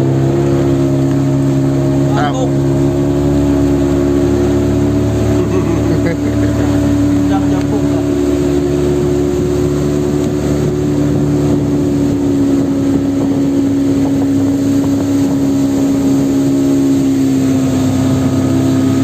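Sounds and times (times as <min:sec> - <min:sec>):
small boat engine running: 0:00.0 - 0:19.0.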